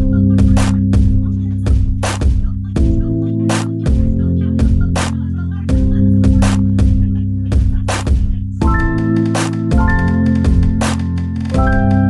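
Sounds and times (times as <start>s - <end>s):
bass line: 0.0s - 12.0s
drum beat: 0.0s - 12.0s
sustained keyboard chords: 0.0s - 12.0s.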